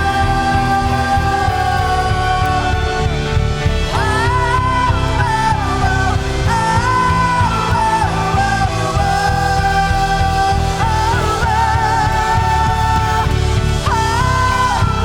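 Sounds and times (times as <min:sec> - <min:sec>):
person singing long notes: 0:00.0 - 0:15.0
worship band playing: 0:00.0 - 0:15.0.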